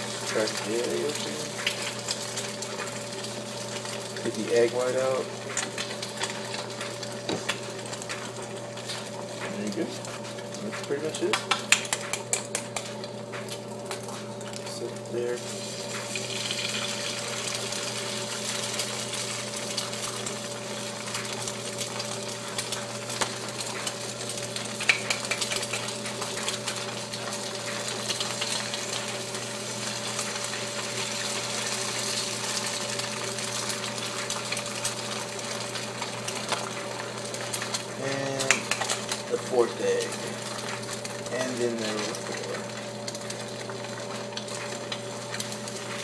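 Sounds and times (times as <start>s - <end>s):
eggs sizzling in a pan: 0.0s - 46.0s.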